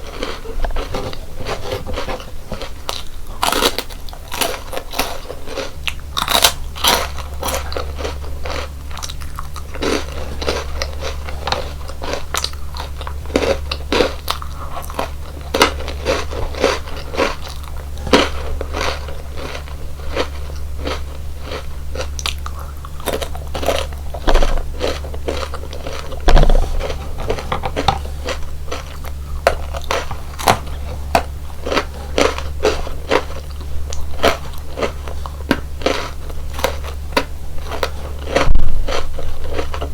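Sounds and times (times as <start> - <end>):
crunchy biscuit chewing: 0.0 - 39.9
steady low hum: 0.0 - 39.9.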